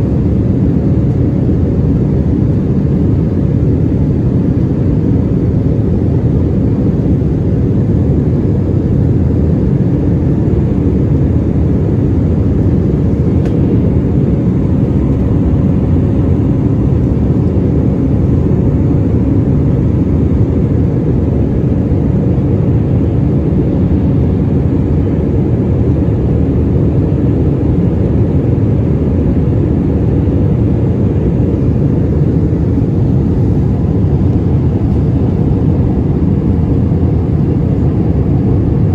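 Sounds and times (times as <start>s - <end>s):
aircraft cabin engine roar: 0.0s - 38.9s
faint steady hum: 0.0s - 38.9s.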